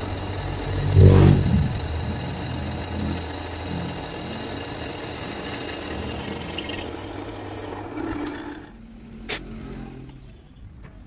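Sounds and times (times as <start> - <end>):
mechanical running noise: 0.0 - 8.9.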